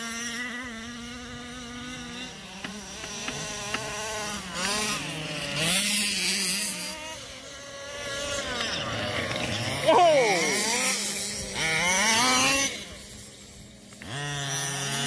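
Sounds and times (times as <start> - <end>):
small two-stroke engine buzzing: 0.0 - 15.0.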